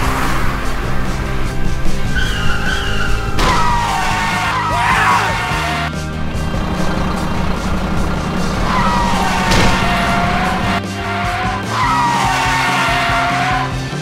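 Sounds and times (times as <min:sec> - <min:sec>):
sharp crash: 0:00.0 - 0:05.4, 0:06.0 - 0:13.7
background music: 0:00.0 - 0:14.0
tyre screech: 0:00.0 - 0:14.0.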